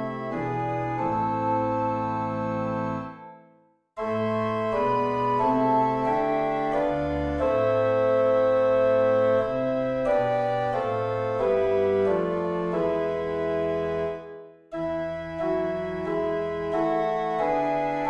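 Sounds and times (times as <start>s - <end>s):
organ playing a hymn: 0.0s - 18.0s.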